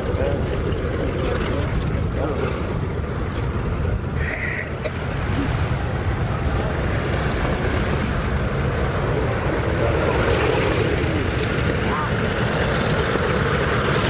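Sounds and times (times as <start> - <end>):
propeller plane engines rumbling: 0.0 - 14.0.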